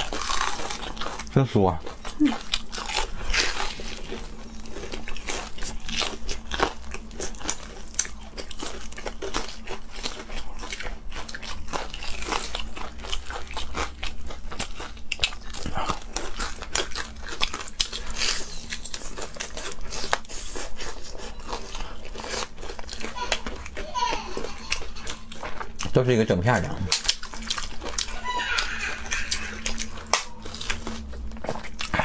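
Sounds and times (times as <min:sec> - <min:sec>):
crunchy chewing: 0:00.0 - 0:32.0.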